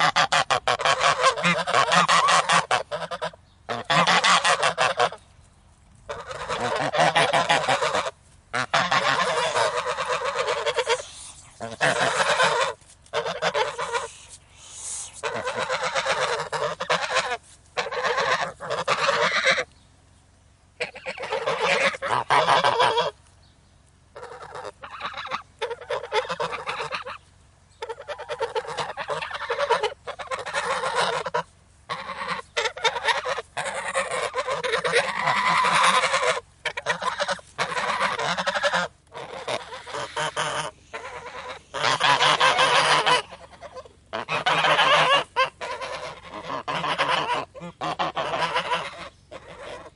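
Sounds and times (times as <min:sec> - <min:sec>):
geese honking: 0:00.0 - 0:05.2, 0:06.0 - 0:19.7, 0:20.8 - 0:23.2, 0:24.1 - 0:49.9.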